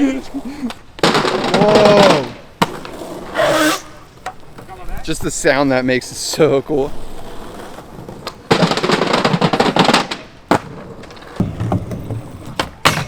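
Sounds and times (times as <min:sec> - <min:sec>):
skateboard clack: 0:00.0 - 0:13.0
skateboard grinding: 0:00.0 - 0:13.0
skateboard wheels rolling: 0:00.0 - 0:13.0.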